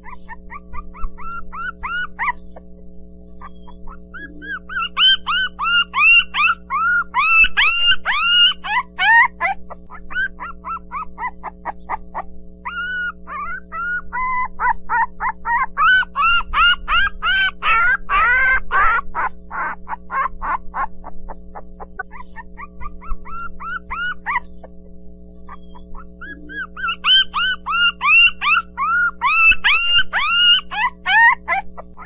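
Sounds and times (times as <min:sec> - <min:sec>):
puppies whining and yipping: 0:00.0 - 0:32.0.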